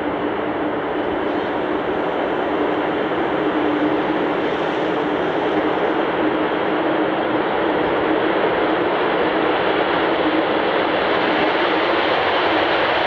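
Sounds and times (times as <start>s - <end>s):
loud jet engine roar: 0.0s - 13.0s.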